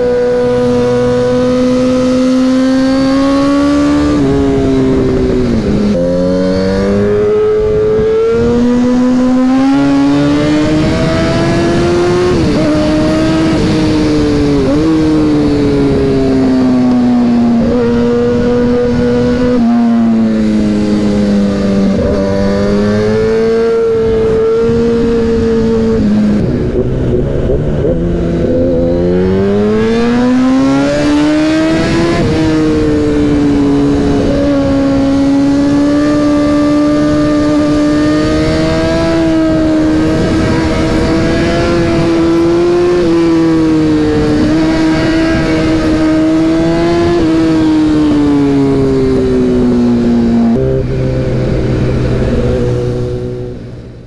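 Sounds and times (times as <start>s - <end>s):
motorcycle engine at high revs: 0.0s - 54.0s.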